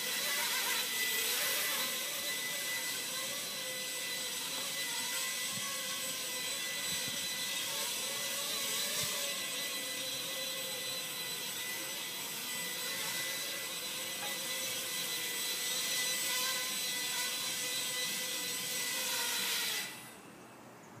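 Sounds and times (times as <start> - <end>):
quadcopter motors whining: 0.0 - 20.3.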